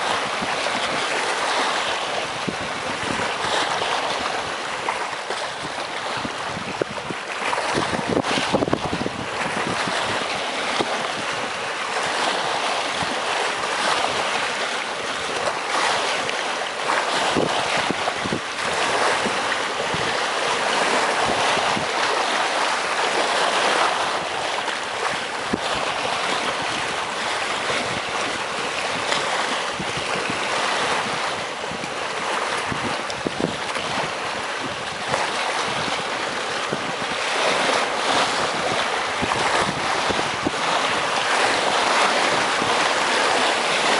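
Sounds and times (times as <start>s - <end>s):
sea waves splashing on rocks: 0.0s - 43.9s.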